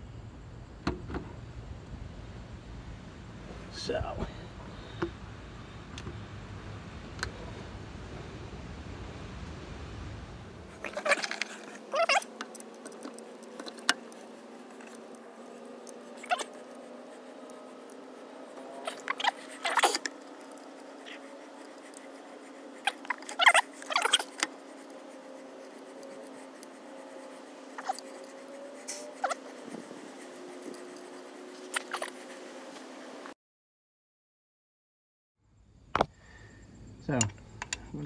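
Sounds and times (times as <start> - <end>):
faint steady hum: 0.0 - 33.3, 35.4 - 38.0.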